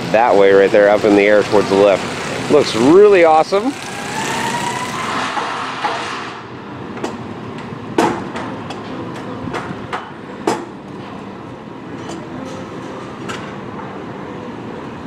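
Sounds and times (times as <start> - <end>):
construction site background: 0.0 - 15.0.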